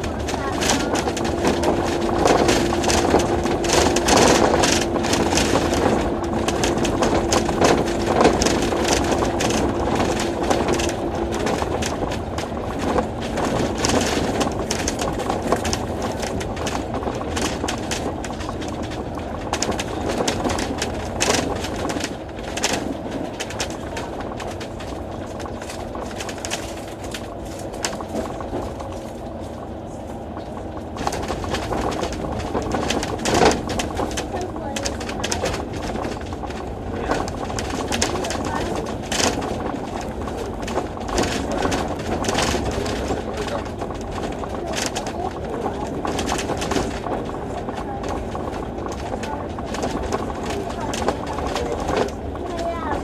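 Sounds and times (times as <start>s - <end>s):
bus engine and road noise: 0.0s - 53.0s
small rattles: 0.0s - 53.0s
steady whine: 0.0s - 53.0s.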